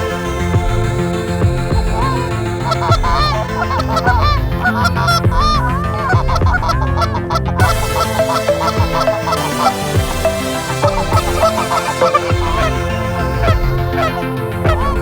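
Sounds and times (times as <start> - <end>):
electronic music with steady beat: 0.0 - 15.0
geese honking: 2.0 - 15.0.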